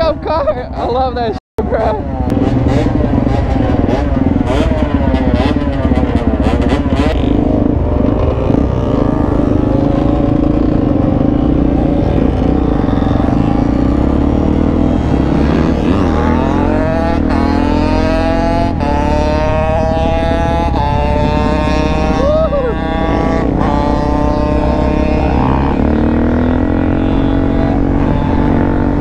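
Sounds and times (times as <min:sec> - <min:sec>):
dirt bikes running nearby: 0:00.0 - 0:29.0
motorcycle engine revving: 0:00.0 - 0:29.0.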